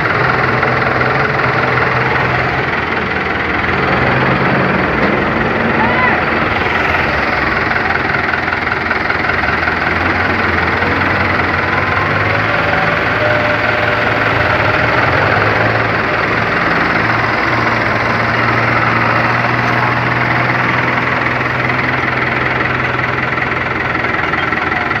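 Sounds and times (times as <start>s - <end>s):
tractor engines humming: 0.0s - 25.0s.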